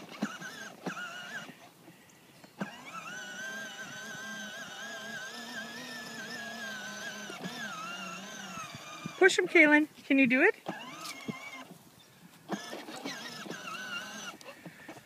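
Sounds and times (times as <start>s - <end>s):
toy electric motor whining: 0.0s - 1.7s, 2.4s - 9.6s, 10.6s - 11.8s, 12.4s - 15.0s.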